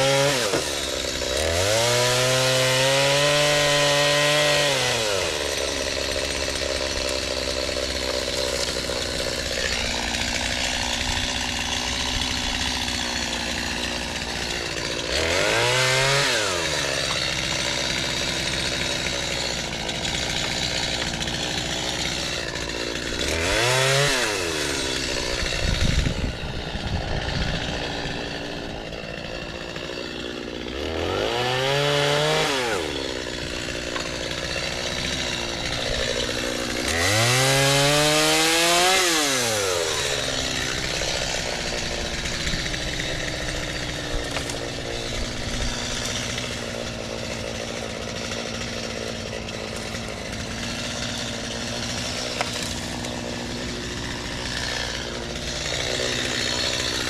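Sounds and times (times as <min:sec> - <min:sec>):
chainsaw cutting branches: 0:00.0 - 0:57.0
chainsaw revving: 0:00.0 - 0:57.0.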